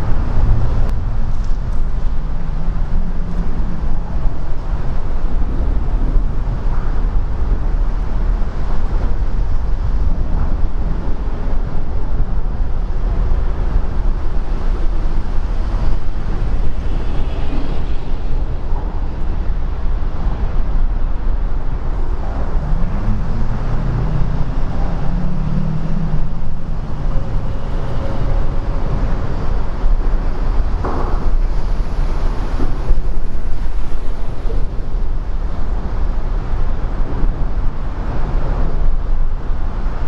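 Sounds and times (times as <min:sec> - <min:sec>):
highway traffic rumble: 0:00.0 - 0:40.0.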